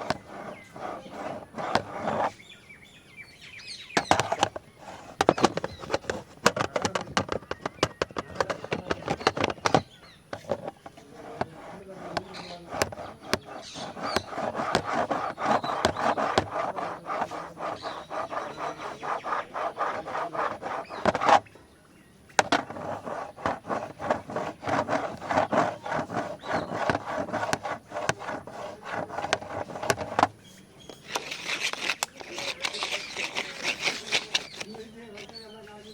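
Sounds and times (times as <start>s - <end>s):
scratching on camera body: 0.0s - 2.6s, 3.6s - 21.5s, 22.3s - 35.8s.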